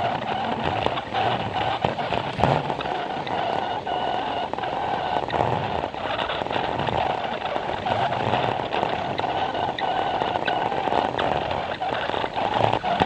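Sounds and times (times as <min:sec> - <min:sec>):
toy train motor whining: 0:00.0 - 0:13.0
toy train wheels clicking: 0:00.0 - 0:13.0.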